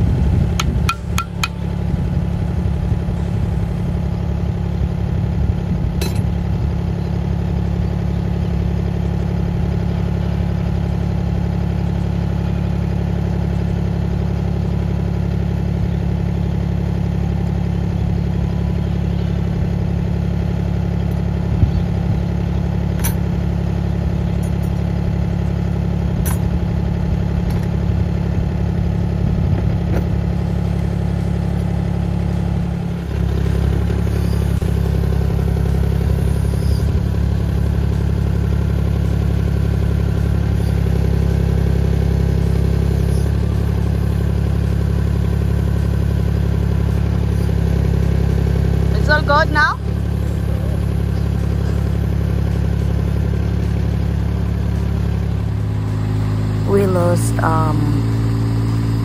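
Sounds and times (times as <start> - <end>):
small excavator engine idling: 0.0 - 59.0.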